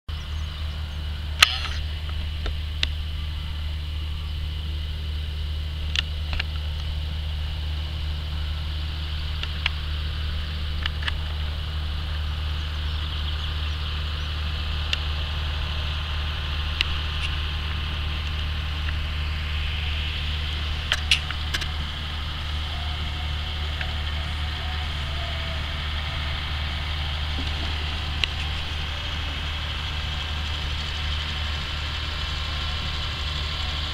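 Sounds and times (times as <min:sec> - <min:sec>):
high whine: 0:00.1 - 0:33.9
tractor diesel engine running: 0:00.1 - 0:33.9.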